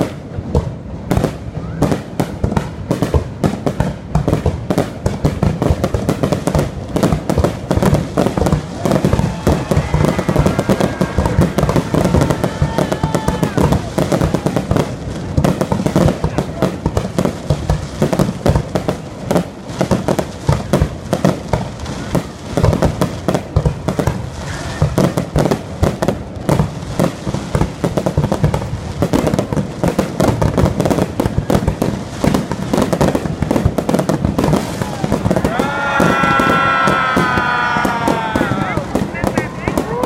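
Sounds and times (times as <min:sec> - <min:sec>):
fireworks bangs and crackle: 0:00.0 - 0:40.0.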